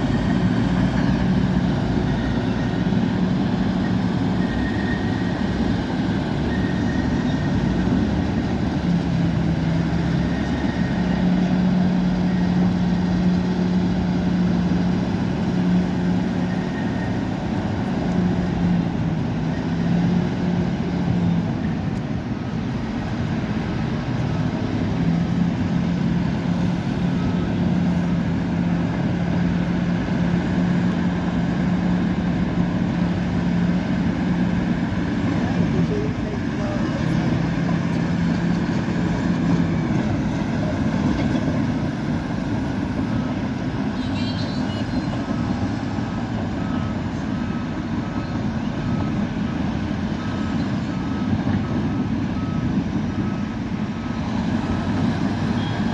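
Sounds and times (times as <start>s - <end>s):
bulldozer diesel engine droning: 0.0s - 55.9s.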